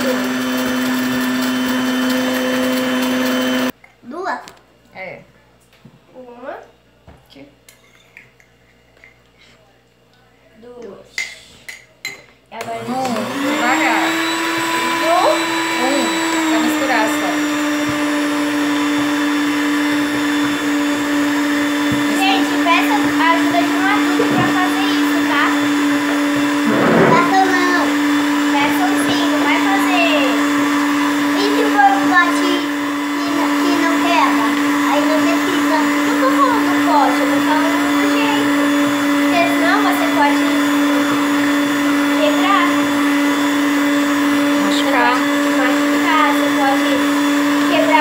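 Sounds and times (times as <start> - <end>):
stand mixer motor humming: 0.0 - 3.7, 12.6 - 48.0
beaters whipping cream: 0.0 - 3.8, 12.6 - 48.0.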